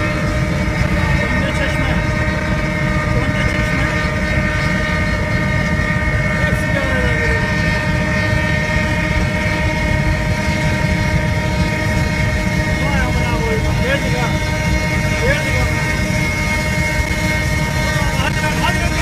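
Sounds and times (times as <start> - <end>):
steady multi-tone whine: 0.0 - 19.0.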